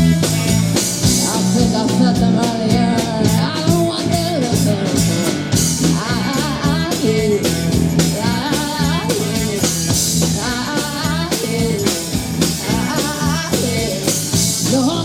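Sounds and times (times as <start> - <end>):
live blues-rock band playing: 0.0 - 15.0.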